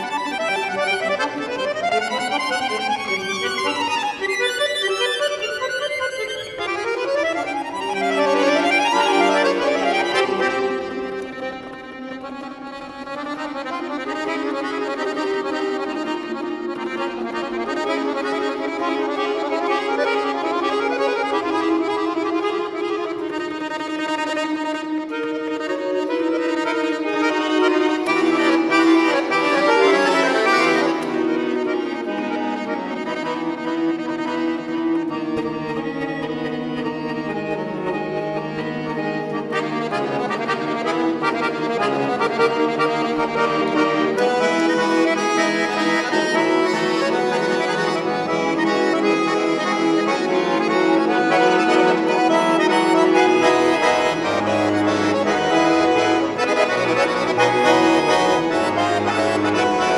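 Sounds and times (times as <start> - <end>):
button accordion solo: 0.0 - 59.9.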